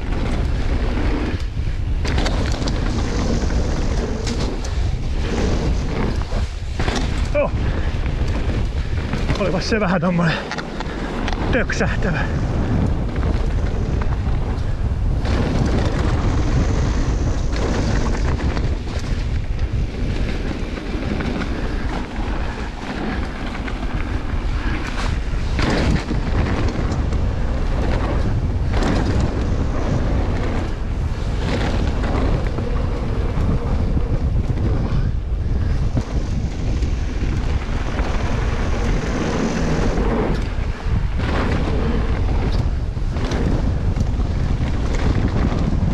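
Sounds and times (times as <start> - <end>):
bike clattering over bumps: 0.0 - 45.9
bike tyres rolling on trail: 0.0 - 45.9
wind buffeting microphone: 0.0 - 45.9.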